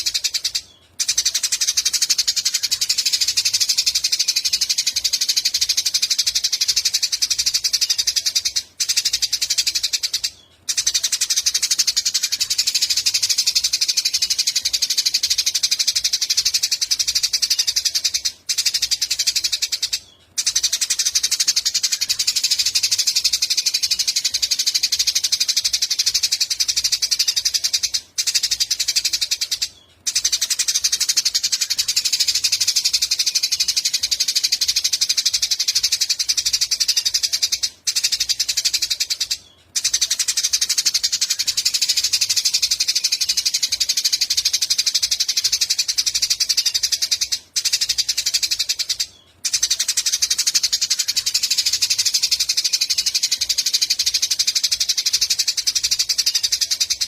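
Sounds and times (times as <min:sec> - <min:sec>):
songbird rapid trill: 0:00.0 - 0:57.0.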